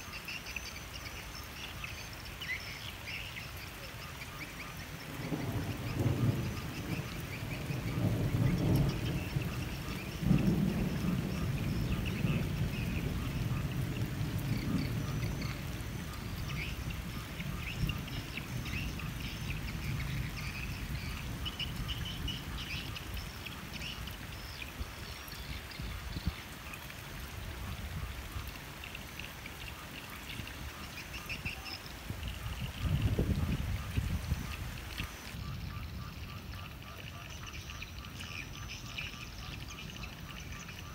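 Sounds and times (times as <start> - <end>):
steady rain falling: 0.0 - 40.9
water dripping from roof edge: 0.0 - 40.9.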